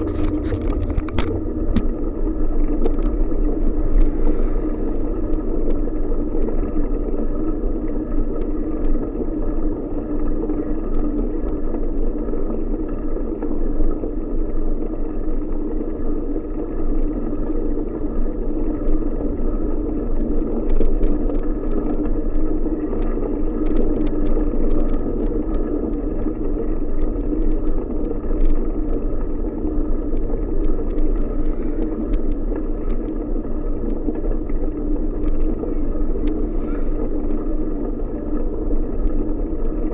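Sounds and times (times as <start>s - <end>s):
wind and tyre rumble: 0.0s - 39.9s.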